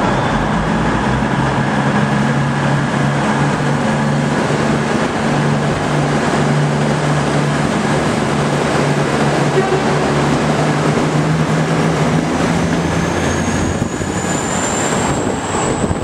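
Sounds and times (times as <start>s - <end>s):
train diesel drone: 0.0s - 16.0s.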